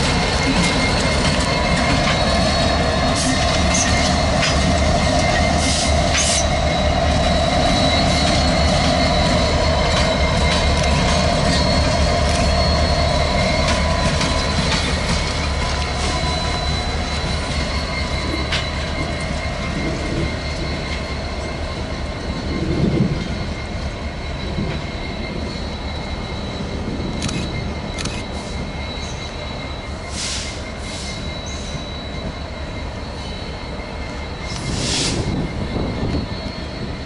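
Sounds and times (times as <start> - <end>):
high-pitched wheel squeal: 0.0 - 37.0
train rumbling past: 0.0 - 37.0.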